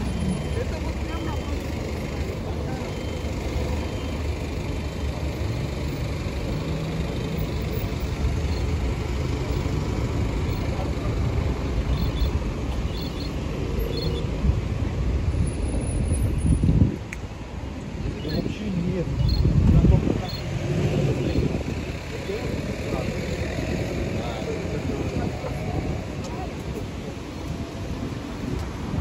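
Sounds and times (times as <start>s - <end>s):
car engines: 0.0s - 29.0s.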